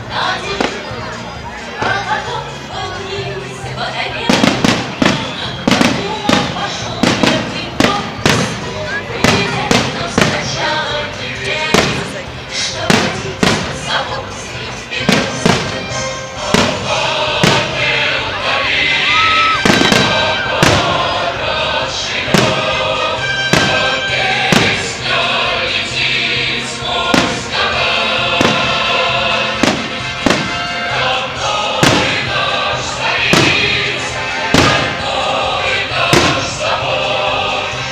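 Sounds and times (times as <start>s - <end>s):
choir singing: 0.0s - 37.9s
loud music: 0.0s - 37.9s
fireworks banging: 4.2s - 14.1s, 15.0s - 37.9s.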